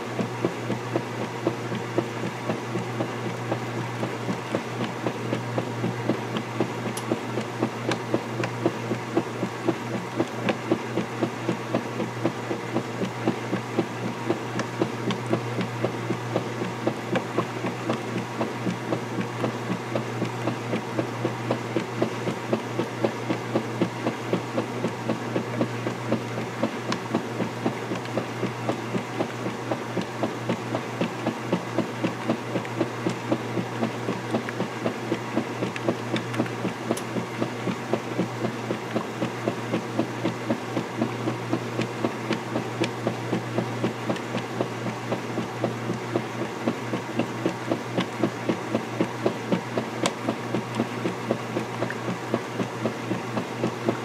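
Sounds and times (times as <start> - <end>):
agitator sloshing and knocking: 0.0 - 54.0
washing machine motor hum: 0.0 - 54.0.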